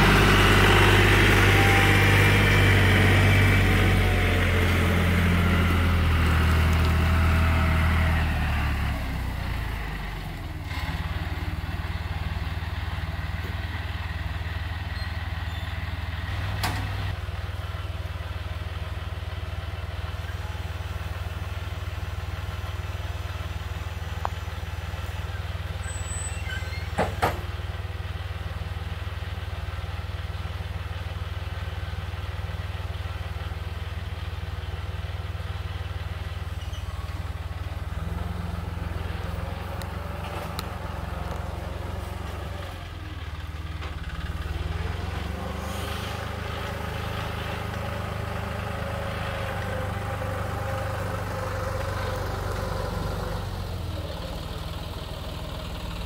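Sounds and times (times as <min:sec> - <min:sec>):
tractor engine idling and revving: 0:00.0 - 0:56.0.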